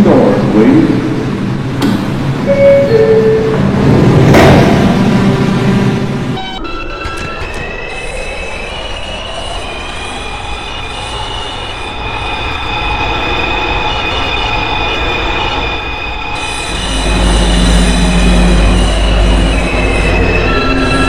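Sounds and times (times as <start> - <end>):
subway train motor whine: 0.0 - 21.0
train wheels rumbling on rails: 0.0 - 21.0.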